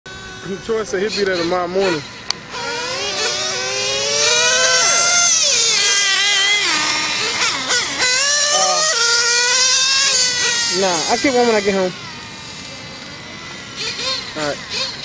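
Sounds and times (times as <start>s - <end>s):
rc car engines revving: 0.1s - 15.0s.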